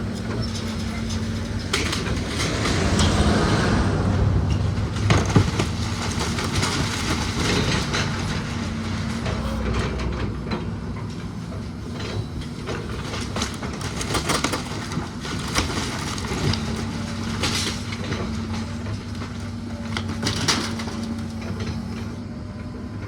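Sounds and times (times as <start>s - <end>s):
cracking and clattering debris: 0.0s - 22.2s
machine engine running: 0.0s - 22.8s.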